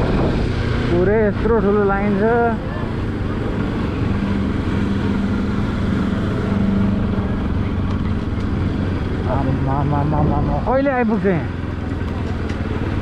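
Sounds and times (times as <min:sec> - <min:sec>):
rumbling background noise: 0:00.0 - 0:13.0.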